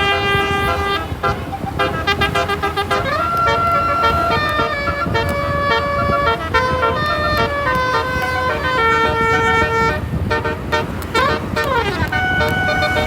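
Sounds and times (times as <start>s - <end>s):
multi-tone bus horn melody: 0.0s - 13.0s.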